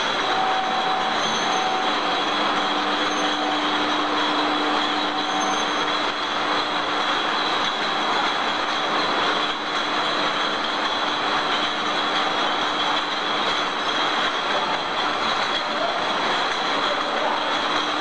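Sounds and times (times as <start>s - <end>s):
conveyor running: 0.0s - 18.0s.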